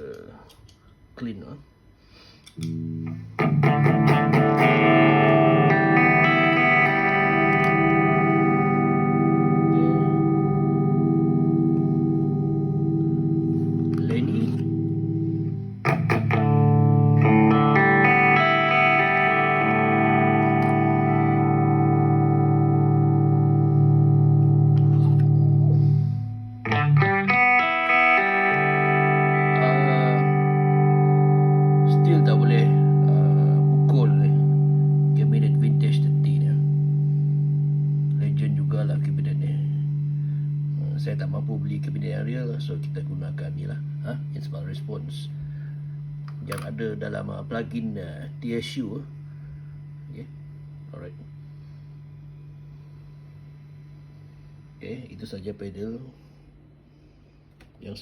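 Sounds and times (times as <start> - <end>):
clean electric guitar notes and chord: 2.5 - 54.1.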